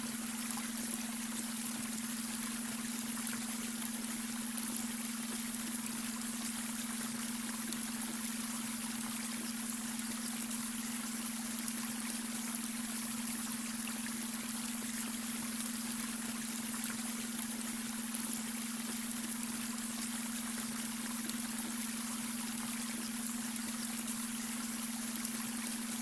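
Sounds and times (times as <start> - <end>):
brook water splashing over stones: 0.0 - 26.0
constant low hum tone: 0.0 - 26.0.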